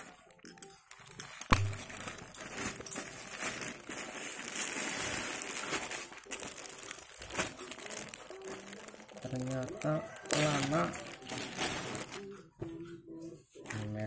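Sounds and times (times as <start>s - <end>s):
plastic bags crinkling: 0.0s - 12.4s.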